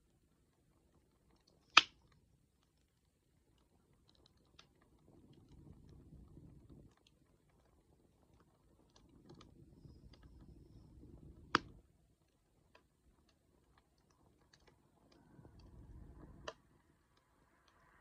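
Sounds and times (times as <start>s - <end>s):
low rumble of flames: 0.0s - 18.0s
wood fire crackling: 0.0s - 18.0s
burning wood pops: 0.1s - 17.8s.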